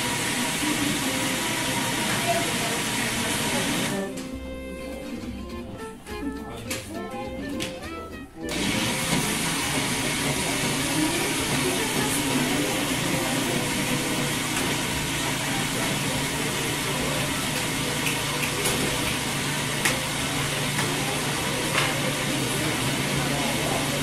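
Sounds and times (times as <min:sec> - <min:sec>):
electric blender running: 0:00.0 - 0:04.5, 0:08.5 - 0:24.0.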